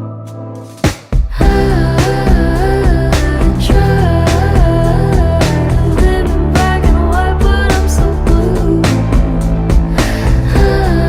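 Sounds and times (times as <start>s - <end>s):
song with singing voice: 0.0s - 11.0s
steady beat and bass: 0.8s - 11.0s.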